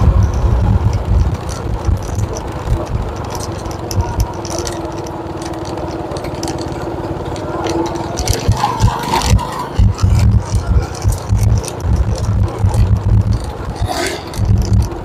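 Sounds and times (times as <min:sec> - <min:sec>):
wind rumble on microphone: 0:00.0 - 0:05.9, 0:07.8 - 0:15.0
light rattles: 0:00.0 - 0:15.0
motorcycle engine running: 0:00.0 - 0:15.0.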